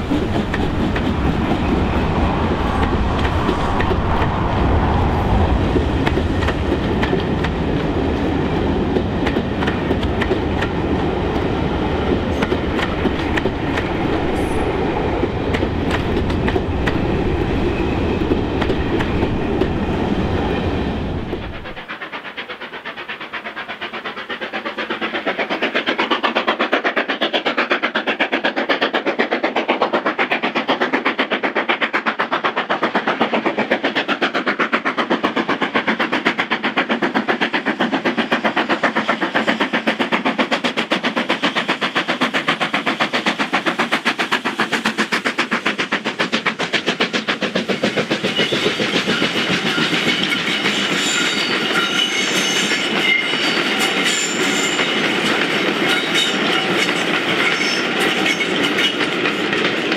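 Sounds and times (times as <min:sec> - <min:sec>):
steam locomotive exhaust beating: 0:00.0 - 0:59.9.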